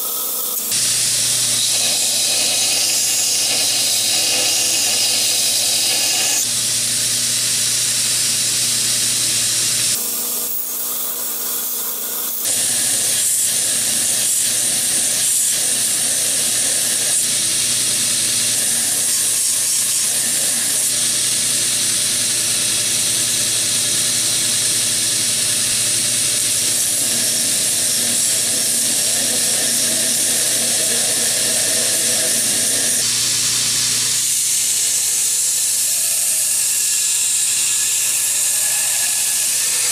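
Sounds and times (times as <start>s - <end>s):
belt grinder grinding steel: 0.0s - 6.5s, 9.4s - 39.9s.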